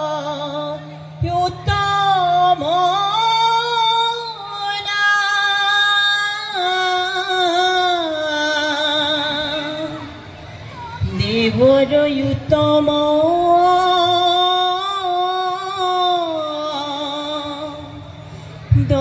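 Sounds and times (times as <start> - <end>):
amplified person chanting: 0.0 - 19.0.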